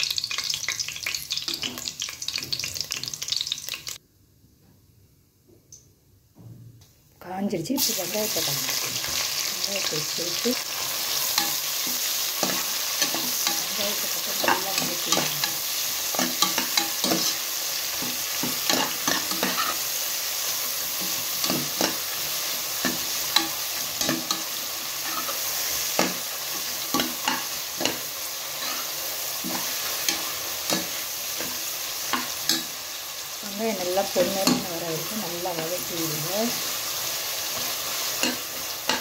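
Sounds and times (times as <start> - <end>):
onions sizzling in oil: 0.0 - 4.0, 7.6 - 39.0.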